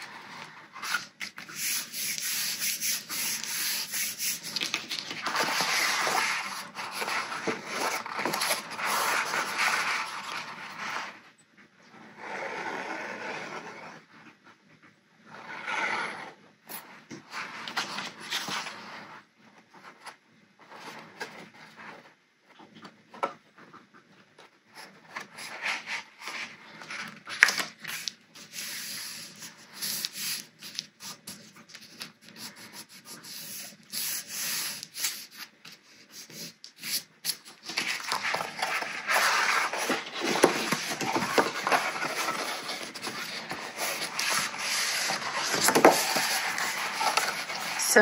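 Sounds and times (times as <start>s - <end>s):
paper rubbing and sliding: 0.0s - 11.2s, 15.3s - 19.3s, 24.8s - 48.0s.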